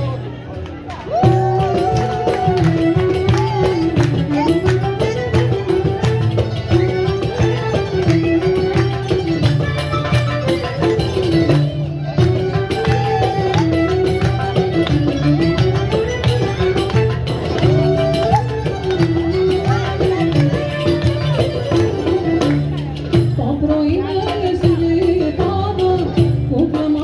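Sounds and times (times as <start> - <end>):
hand percussion: 0.0 - 27.0.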